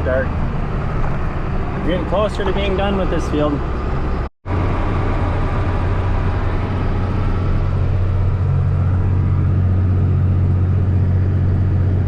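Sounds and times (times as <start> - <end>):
tractor engine low hum: 0.0 - 12.0.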